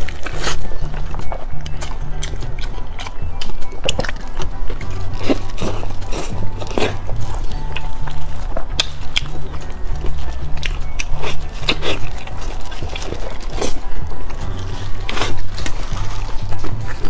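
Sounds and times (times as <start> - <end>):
background music with bass line: 0.0 - 17.0
wet chewing and lip-smacking: 0.0 - 17.0.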